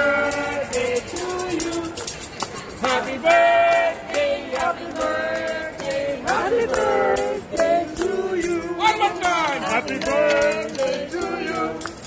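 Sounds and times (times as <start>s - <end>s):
group singing: 0.0s - 12.0s
people clapping: 0.0s - 12.0s
tambourine jingling: 0.0s - 12.0s.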